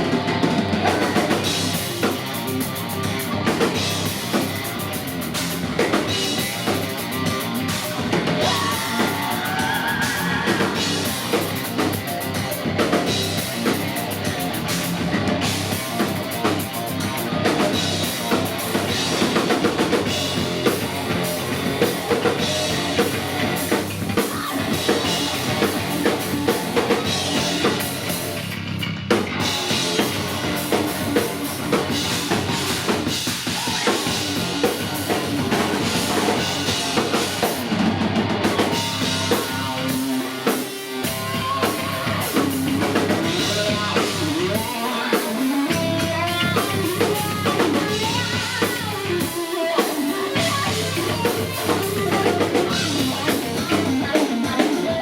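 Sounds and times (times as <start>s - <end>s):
distorted electric guitars: 0.0s - 55.0s
drum kit pounding: 0.0s - 55.0s.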